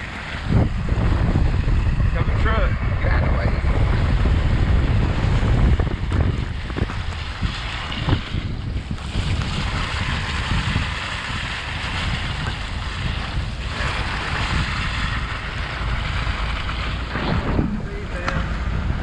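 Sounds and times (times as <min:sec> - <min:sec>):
truck engine and tyres rumbling: 0:00.0 - 0:19.0
wind buffeting microphone: 0:00.0 - 0:19.0.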